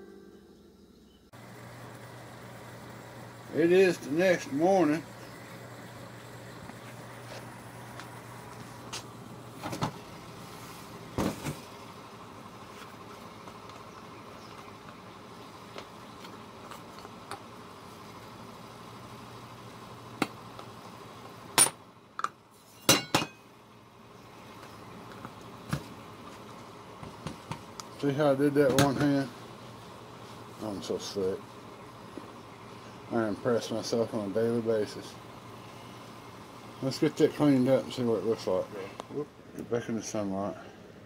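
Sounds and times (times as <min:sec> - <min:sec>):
tumbler motor humming: 0:00.0 - 0:22.2, 0:23.4 - 0:41.0.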